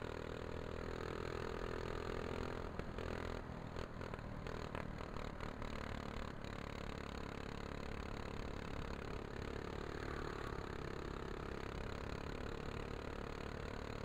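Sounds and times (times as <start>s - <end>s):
go-kart engine running: 0.0s - 14.0s.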